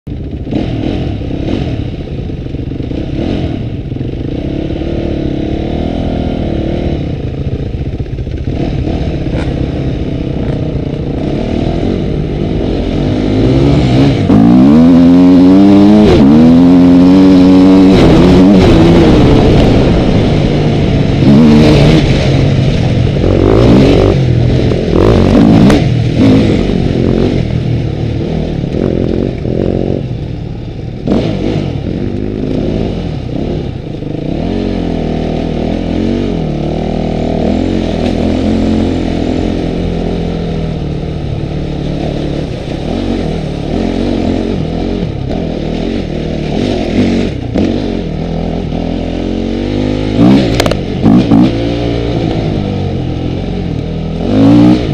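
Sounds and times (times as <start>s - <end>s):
dirt bike engine revving: 0.1s - 54.9s.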